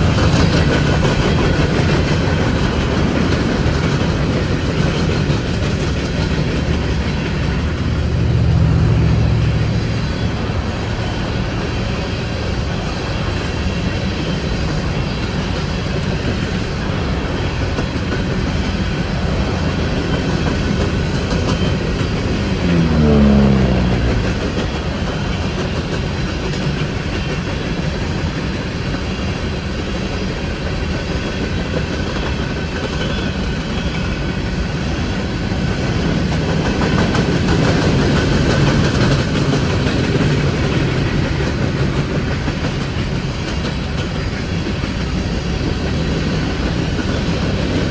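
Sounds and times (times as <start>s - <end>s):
freight train rumbling on rails: 0.0s - 47.9s.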